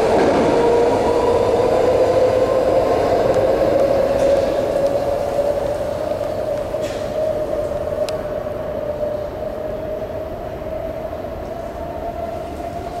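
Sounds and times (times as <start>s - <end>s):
train whine over low rumble: 0.0s - 13.0s.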